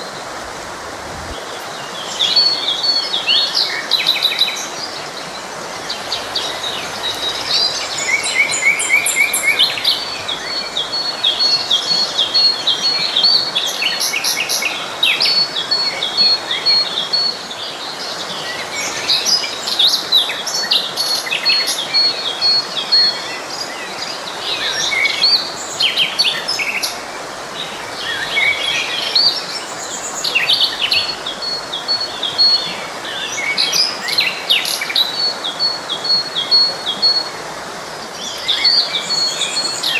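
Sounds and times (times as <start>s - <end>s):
stream flowing: 0.0s - 39.9s
songbirds chirping and singing: 1.4s - 39.9s.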